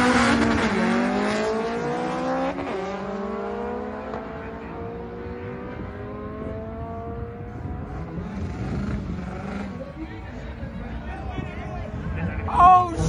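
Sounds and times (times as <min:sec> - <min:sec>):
drag cars accelerating: 0:00.0 - 0:10.8.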